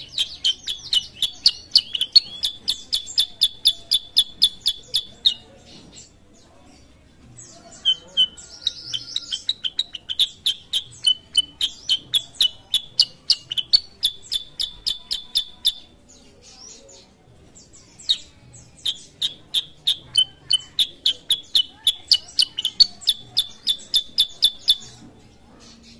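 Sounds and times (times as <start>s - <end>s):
bird chirping: 0.0s - 25.9s.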